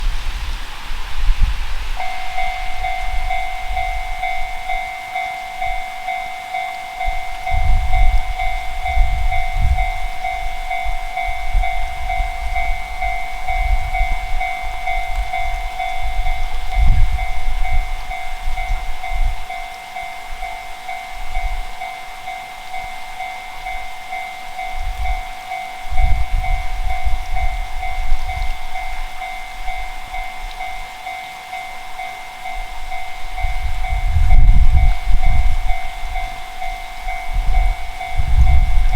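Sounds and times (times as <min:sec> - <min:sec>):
railroad crossing bell ringing: 0:00.0 - 0:38.9.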